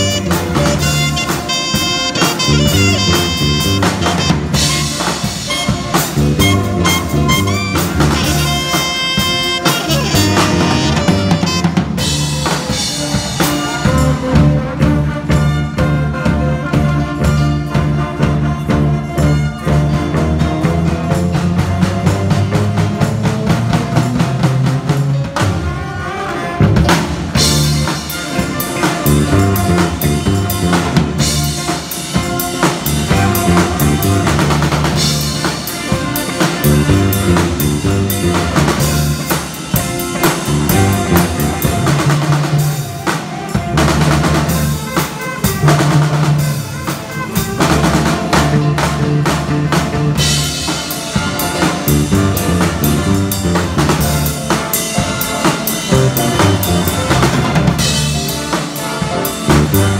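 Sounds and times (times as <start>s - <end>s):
drum kit beat: 0.0s - 59.9s
electric bass guitar: 0.0s - 59.9s.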